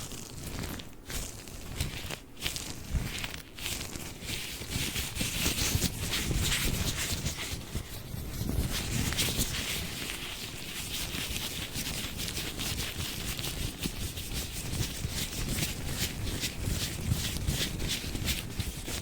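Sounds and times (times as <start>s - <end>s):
latex gloves crinkling: 0.0s - 19.0s.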